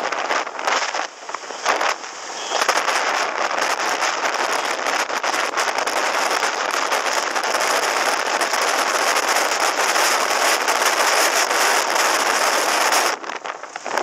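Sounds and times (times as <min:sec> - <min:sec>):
wind rushing over camera: 0:00.0 - 0:14.0.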